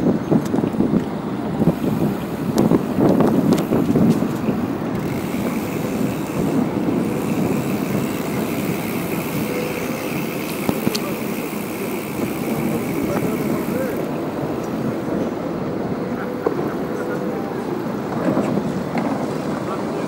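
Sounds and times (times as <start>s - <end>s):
bicycle tyres rolling on asphalt: 0.0s - 20.0s
wind buffeting microphone: 0.0s - 20.0s.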